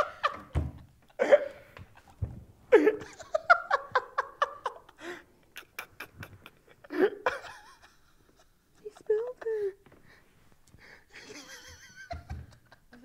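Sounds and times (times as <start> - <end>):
people laughing: 0.0 - 9.8, 11.1 - 13.0.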